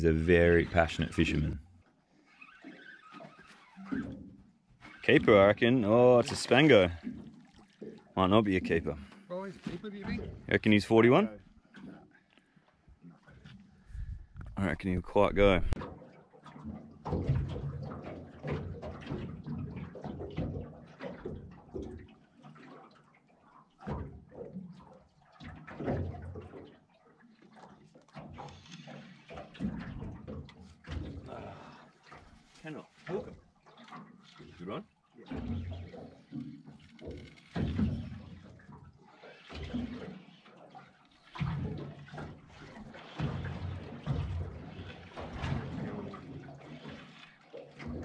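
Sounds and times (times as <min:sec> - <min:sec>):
water lapping against boat hull: 0:00.0 - 0:48.0.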